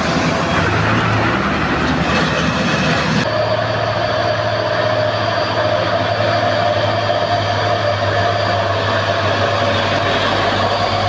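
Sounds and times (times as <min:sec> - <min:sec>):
diesel truck engines droning: 0:00.0 - 0:11.0.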